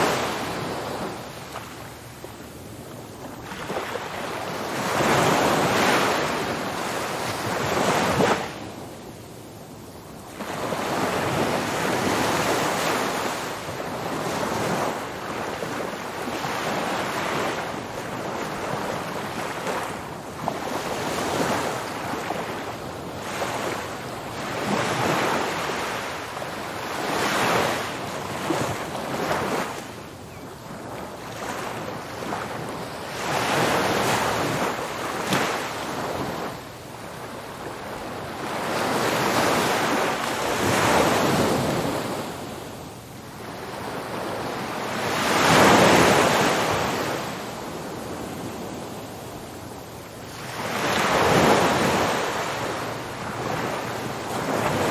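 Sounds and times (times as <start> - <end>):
waves breaking on a beach: 0.0 - 54.9
wind noise on the microphone: 0.0 - 54.9.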